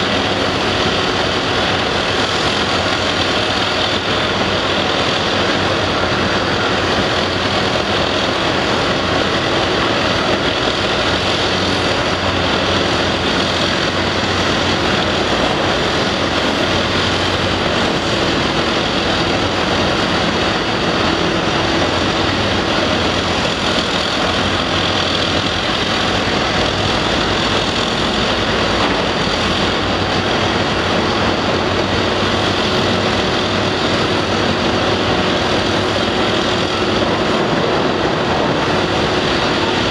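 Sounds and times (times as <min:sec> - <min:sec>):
excavator diesel engines running: 0:00.0 - 0:39.9.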